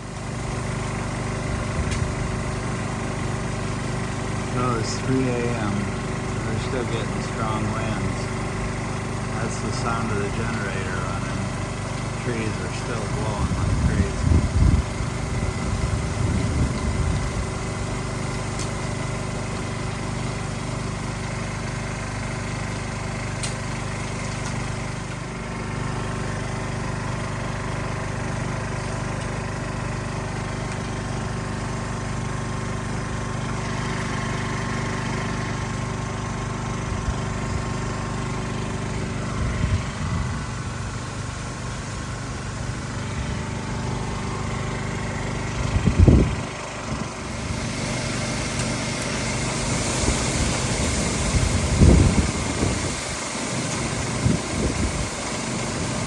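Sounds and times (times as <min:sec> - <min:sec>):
portable generator engine running: 0:00.0 - 0:56.0.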